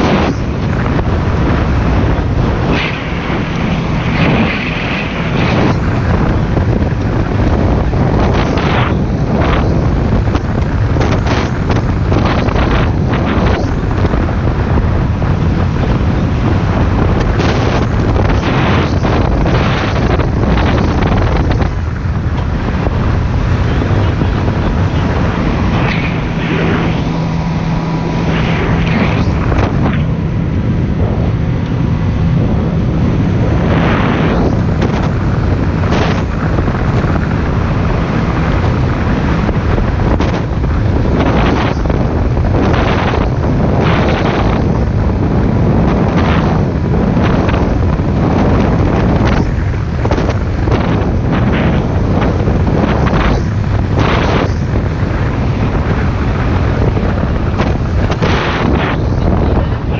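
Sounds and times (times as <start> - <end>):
boat engine drone: 0.0 - 59.9
hull hitting waves: 0.0 - 59.9
wind buffeting microphone: 0.0 - 59.9.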